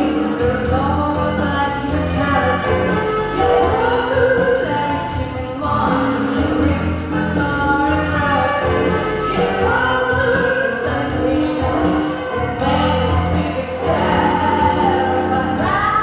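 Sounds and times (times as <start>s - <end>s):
group of voices singing: 0.0s - 16.0s
instrumental backing music: 0.0s - 16.0s.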